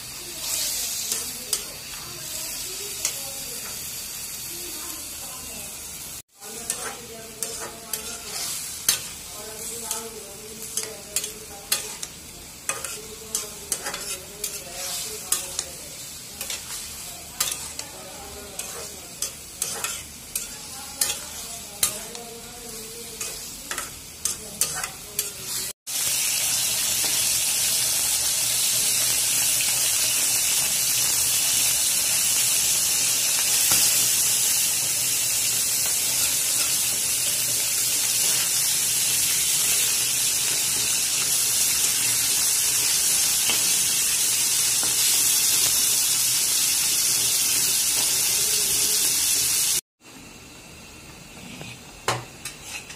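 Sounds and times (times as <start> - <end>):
fish sizzling in hot oil: 0.0 - 49.8.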